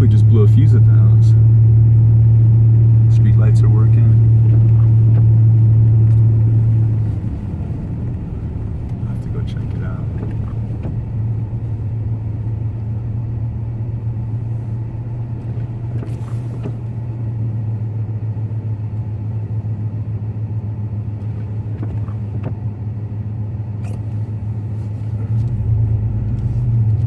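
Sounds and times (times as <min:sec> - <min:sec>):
truck engine and road drone: 0:00.0 - 0:27.0.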